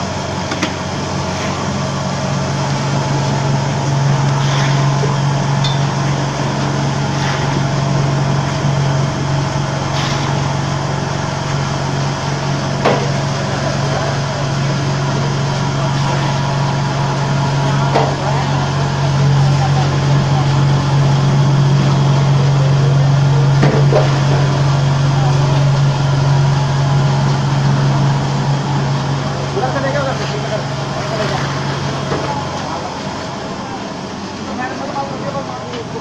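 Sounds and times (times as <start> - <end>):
vibrator table humming: 0.0 - 36.0.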